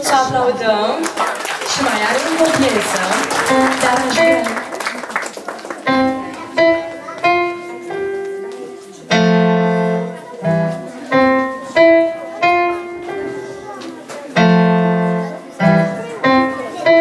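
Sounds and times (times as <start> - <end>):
electronic keyboard piano chords: 2.2 - 17.0.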